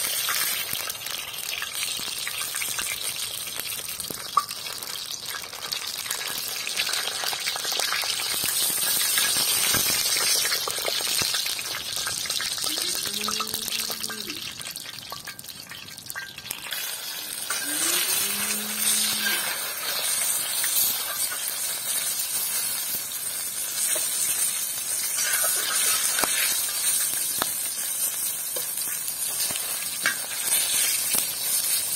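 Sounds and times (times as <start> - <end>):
vegetables sizzling in hot oil: 0.0 - 31.9.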